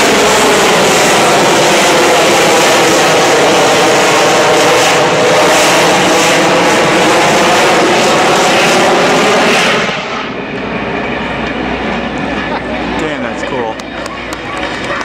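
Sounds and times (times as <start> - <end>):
turboprop engines roaring: 0.0 - 15.0.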